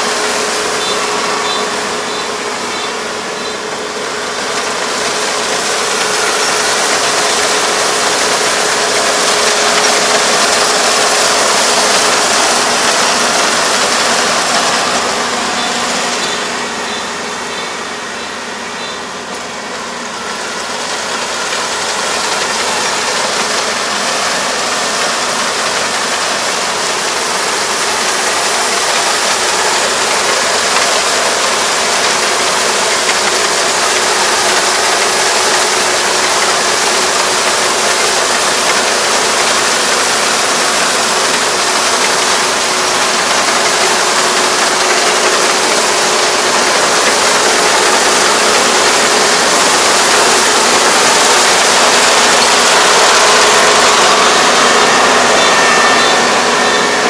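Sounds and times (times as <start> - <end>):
combine harvester engine din: 0.0 - 57.0.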